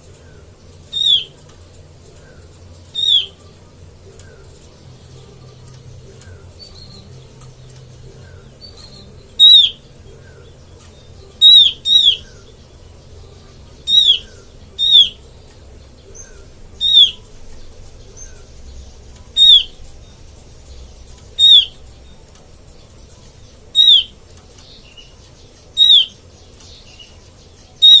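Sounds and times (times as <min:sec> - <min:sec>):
faint bird chirps: 0:00.0 - 0:28.0.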